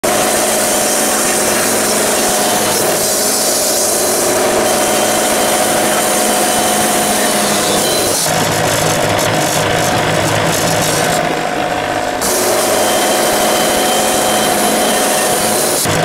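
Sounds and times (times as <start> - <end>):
band blade sawing log: 0.0 - 16.0
sawmill engine running: 0.0 - 16.0.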